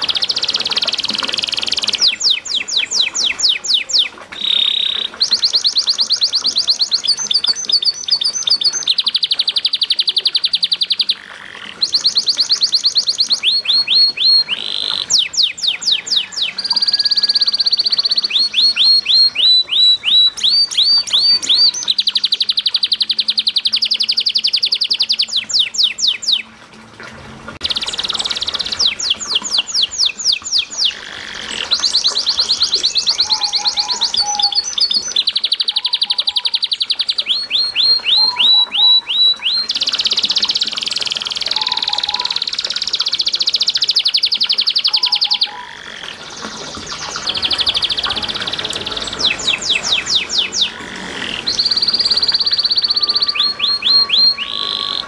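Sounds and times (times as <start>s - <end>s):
canary singing trills: 0.0s - 26.5s, 27.6s - 55.0s.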